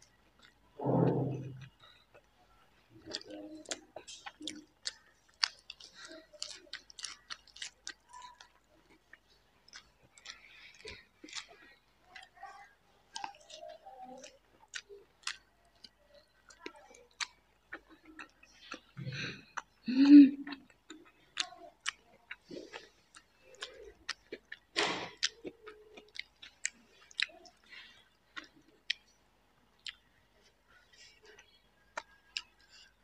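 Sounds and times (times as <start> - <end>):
wet chewing: 0.0 - 33.0.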